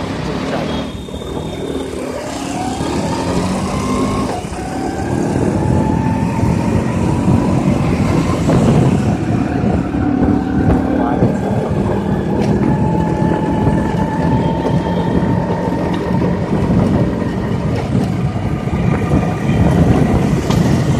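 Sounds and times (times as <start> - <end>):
motorcycle engine running: 0.0 - 20.9
road and wind noise: 0.0 - 20.9.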